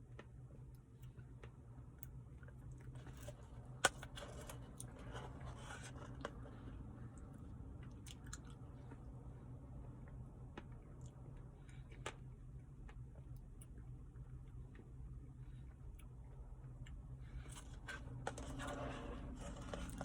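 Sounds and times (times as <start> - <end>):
chewing and crunching: 0.0 - 20.0.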